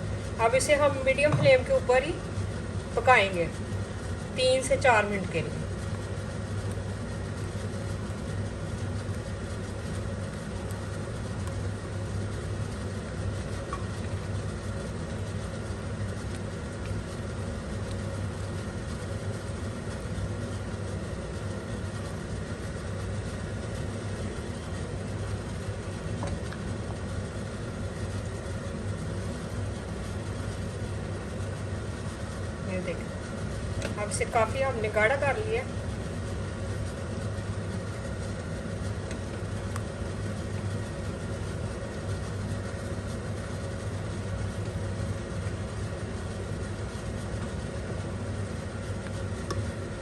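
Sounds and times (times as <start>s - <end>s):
low mechanical hum: 0.0s - 50.0s.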